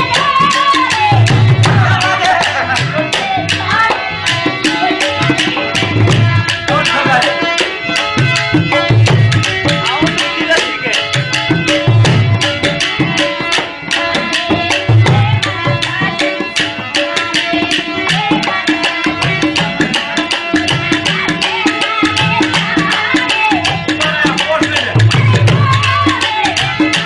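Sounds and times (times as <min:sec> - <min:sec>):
hand drums playing fast strokes: 0:00.0 - 0:27.0.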